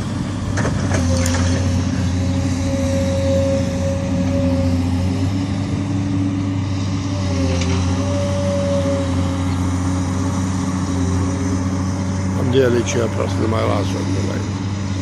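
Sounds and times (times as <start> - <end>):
engine low hum: 0.0 - 15.0.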